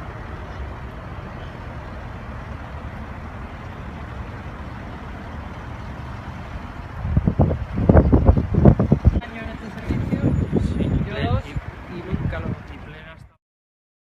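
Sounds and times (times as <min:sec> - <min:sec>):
helicopter low rumble: 0:00.0 - 0:12.6.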